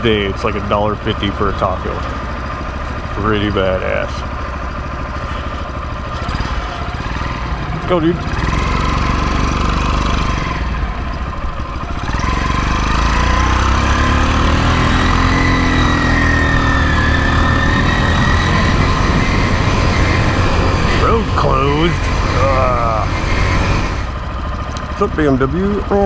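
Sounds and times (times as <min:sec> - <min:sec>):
motorized bicycle engine revving: 0:04.8 - 0:26.0.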